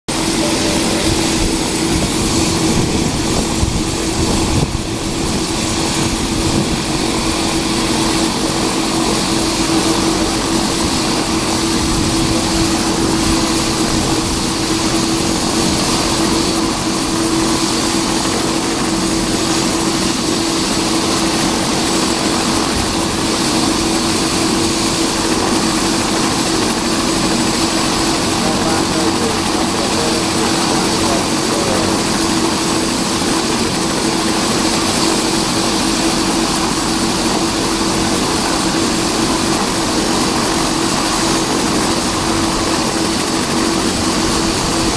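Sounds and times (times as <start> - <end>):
helicopter turbine whine and rotor: 0.1 - 44.9.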